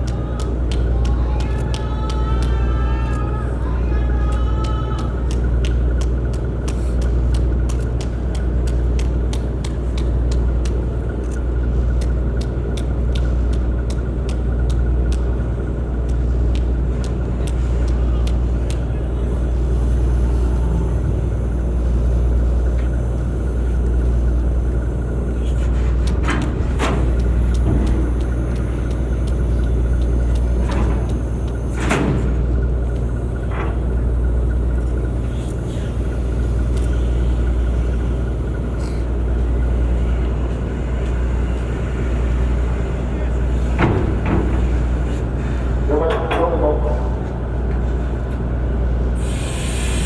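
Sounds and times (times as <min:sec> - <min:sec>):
ship diesel engines rumbling: 0:00.0 - 0:50.0.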